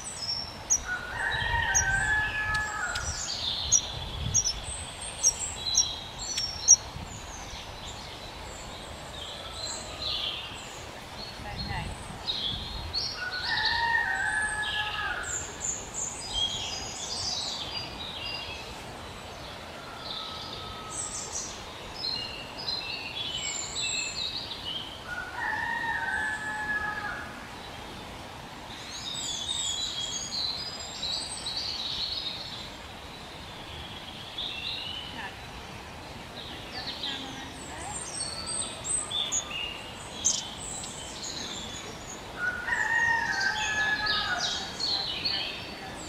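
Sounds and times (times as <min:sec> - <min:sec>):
songbirds singing: 0:00.0 - 0:46.0
steady low background noise: 0:00.0 - 0:46.0.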